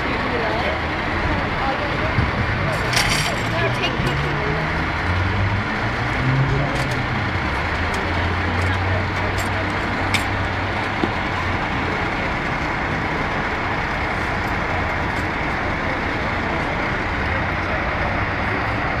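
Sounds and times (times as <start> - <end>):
emergency vehicle engines idling: 0.0 - 19.0
street noise: 0.0 - 19.0.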